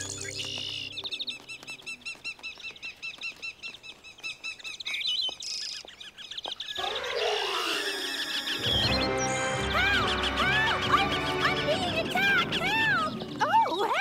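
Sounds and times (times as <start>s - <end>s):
cartoon birds chirping: 0.0s - 14.0s.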